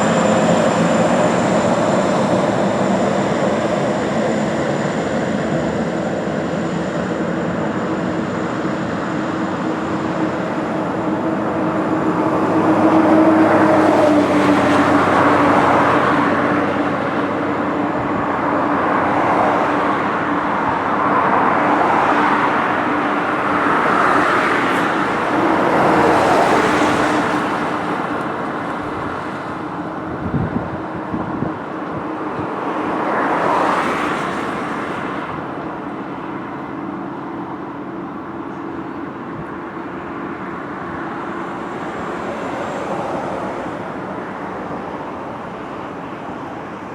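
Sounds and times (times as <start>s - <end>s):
steady traffic hum: 0.0s - 46.9s
vehicles passing on a bridge: 0.0s - 46.9s.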